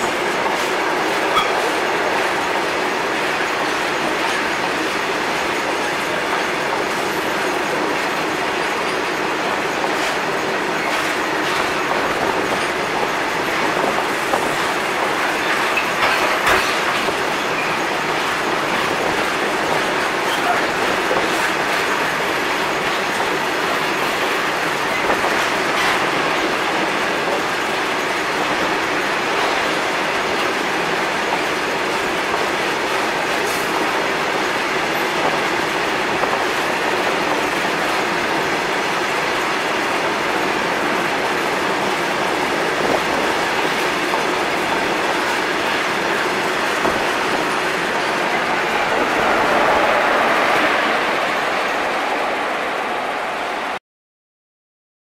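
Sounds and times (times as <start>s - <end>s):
freight train rolling past: 0.0s - 53.8s.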